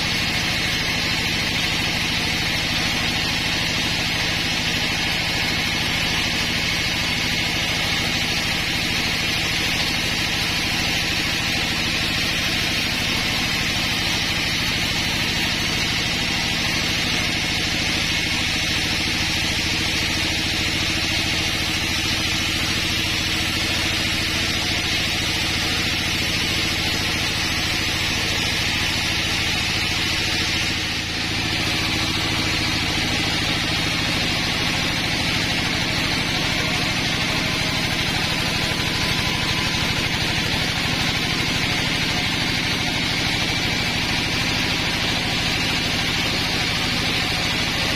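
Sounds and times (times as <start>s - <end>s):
engine drone: 0.0s - 47.9s
sawmill machinery running: 0.0s - 47.9s.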